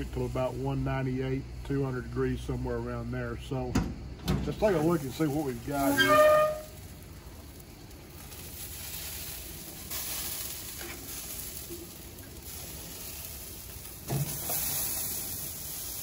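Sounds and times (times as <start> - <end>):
fat sizzling on a smoker: 0.0 - 16.0.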